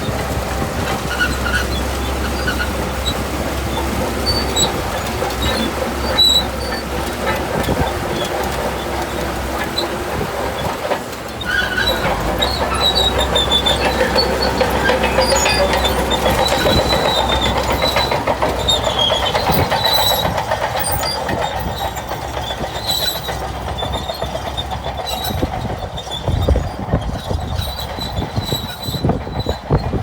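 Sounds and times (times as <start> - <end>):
bulldozer tracks clattering: 0.0 - 30.0
track squeals: 0.0 - 30.0.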